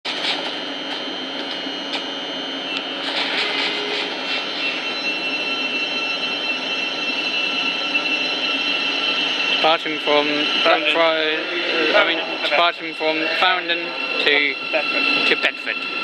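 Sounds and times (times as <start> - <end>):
electric train running whine: 0.1 - 16.0.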